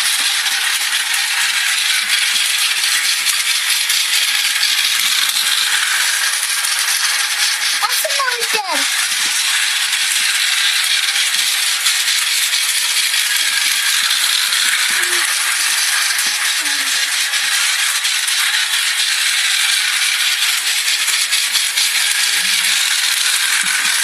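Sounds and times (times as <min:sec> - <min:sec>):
train rattling along: 0:00.0 - 0:24.0.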